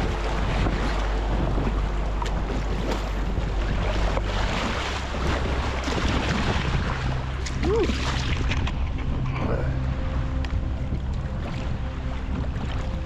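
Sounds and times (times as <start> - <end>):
water splashing around kayak: 0.0 - 13.0
wind buffeting microphone: 0.0 - 13.0.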